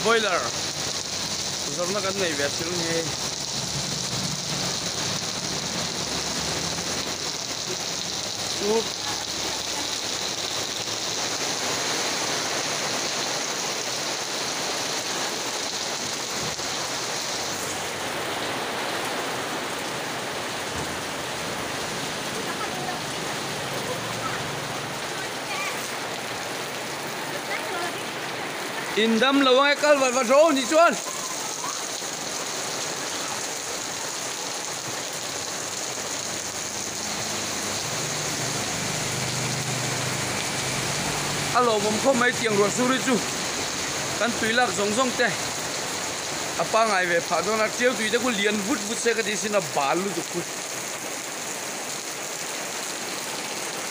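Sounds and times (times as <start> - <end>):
heavy rain splashing on concrete: 0.0 - 53.9.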